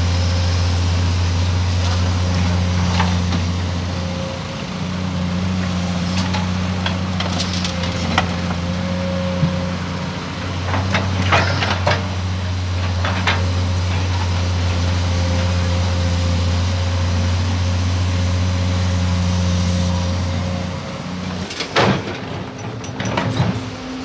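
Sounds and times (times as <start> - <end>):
heavy diesel engines running: 0.0 - 24.0.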